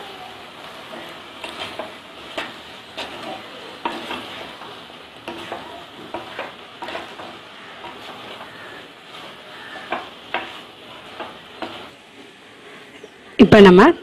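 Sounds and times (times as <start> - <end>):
vegetables sizzling: 0.0 - 14.0.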